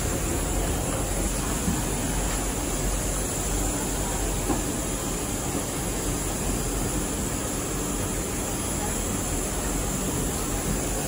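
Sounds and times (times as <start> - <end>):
airliner cabin engine hum and rushing air: 0.0 - 11.0.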